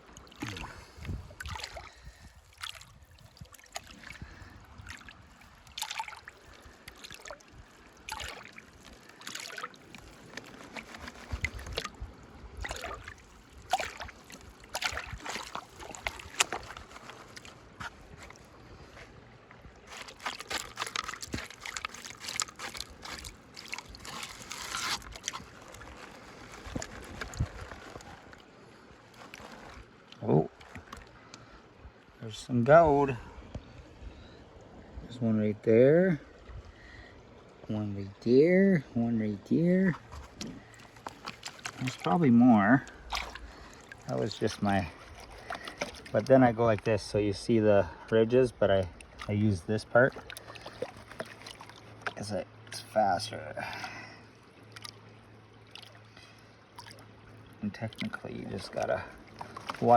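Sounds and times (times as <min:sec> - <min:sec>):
water sloshing in a pan: 0:00.0 - 0:31.1, 0:39.7 - 0:47.1, 0:47.8 - 0:59.9.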